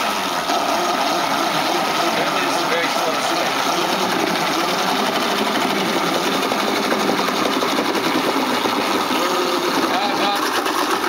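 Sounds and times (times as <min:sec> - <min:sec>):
vibrating motor rattling frame: 0:00.0 - 0:11.0.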